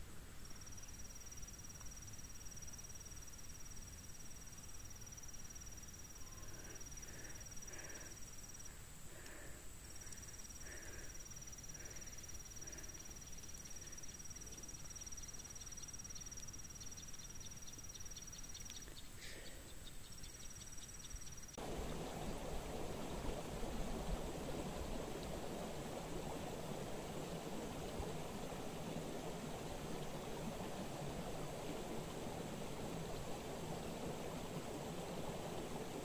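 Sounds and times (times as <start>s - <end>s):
insects trilling: 0.3s - 36.0s.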